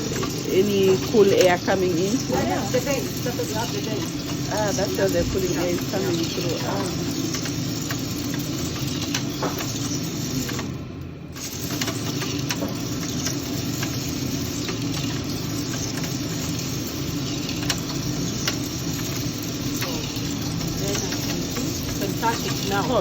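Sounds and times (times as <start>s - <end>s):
light ticks of stirred beans: 0.0s - 23.0s
roaster cooling fan running: 0.0s - 23.0s.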